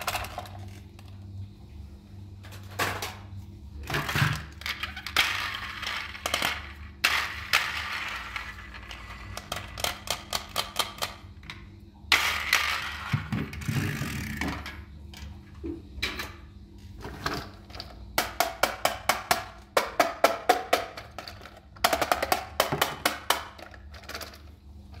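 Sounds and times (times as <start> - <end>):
plastic toys knocking and scraping: 0.0 - 1.2, 3.8 - 15.3, 16.9 - 25.0.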